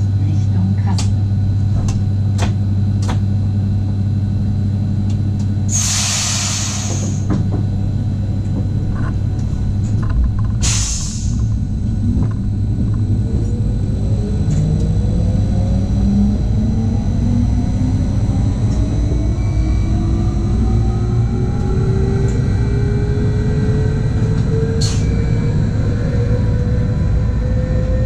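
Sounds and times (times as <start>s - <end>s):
rising whine of train motor: 0.0s - 28.0s
train steady low hum: 0.0s - 28.0s.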